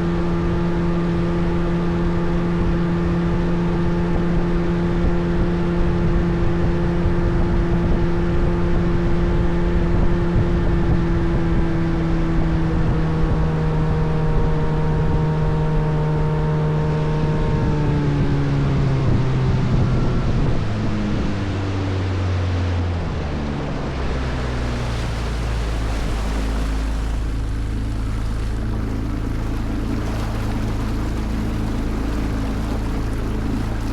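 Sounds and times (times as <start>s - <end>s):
motorboat engine running: 0.0s - 33.9s.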